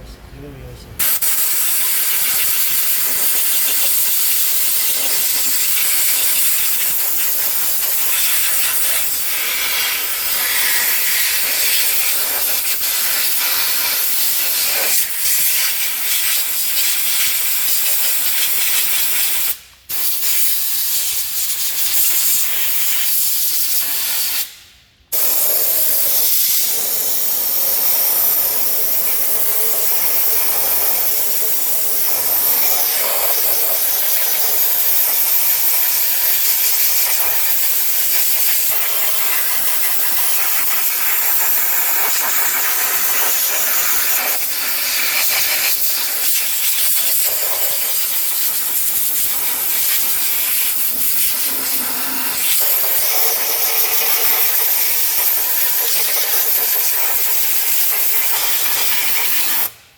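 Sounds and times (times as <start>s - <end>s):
spraying hiss: 1.0s - 59.8s.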